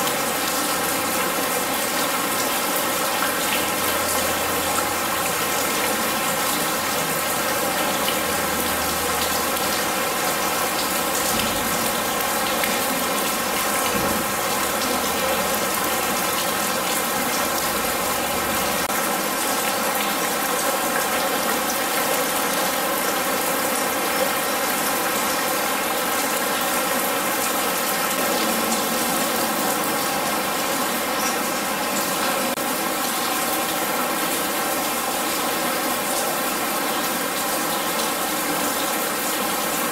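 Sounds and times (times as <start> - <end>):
rain on metal roofs: 0.0 - 39.9.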